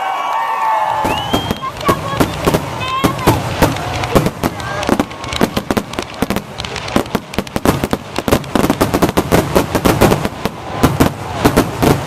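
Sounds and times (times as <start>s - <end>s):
fireworks bangs and crackling: 0.8s - 12.0s.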